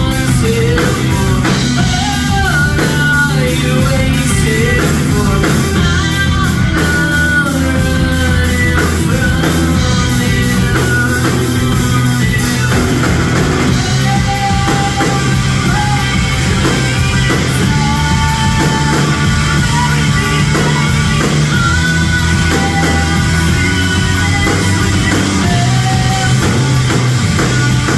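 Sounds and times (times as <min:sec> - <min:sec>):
rock band playing: 0:00.0 - 0:27.9.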